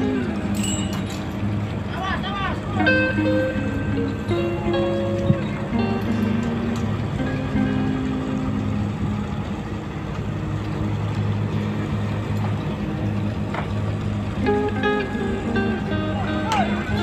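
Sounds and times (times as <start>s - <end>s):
boat engine droning: 0.0s - 17.0s
rushing water wash: 0.0s - 17.0s.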